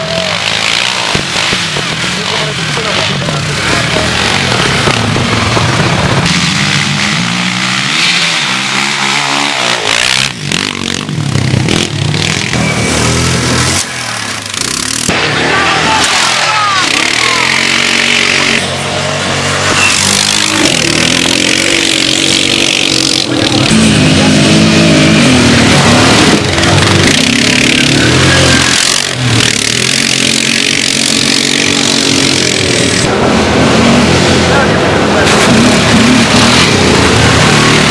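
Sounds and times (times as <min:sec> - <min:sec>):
quad bike engine revving: 0:00.0 - 0:37.9.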